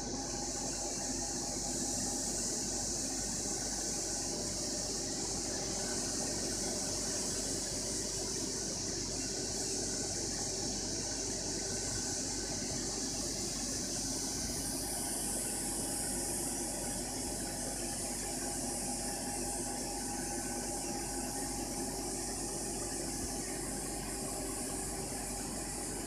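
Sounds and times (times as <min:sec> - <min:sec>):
laser machine hum and hiss: 0:00.0 - 0:26.0.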